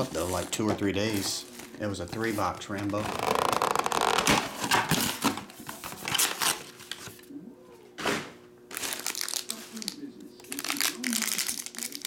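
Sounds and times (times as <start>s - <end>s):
plastic wrap tearing and crinkling: 0.0s - 7.2s, 8.7s - 12.0s.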